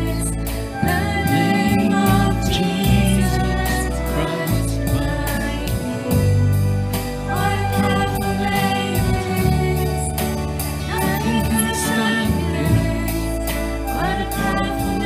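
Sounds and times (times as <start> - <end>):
singing: 0.0 - 6.6, 7.3 - 15.0
worship band playing: 0.0 - 15.0.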